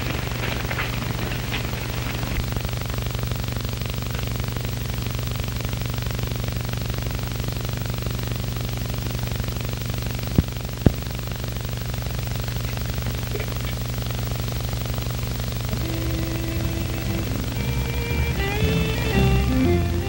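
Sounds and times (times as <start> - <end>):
film soundtrack hum and hiss: 0.0 - 20.0.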